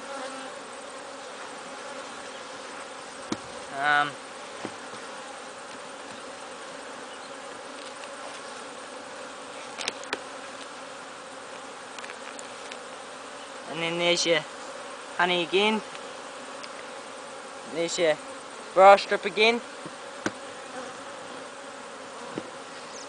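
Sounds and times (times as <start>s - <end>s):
honeybees humming: 0.0s - 23.0s.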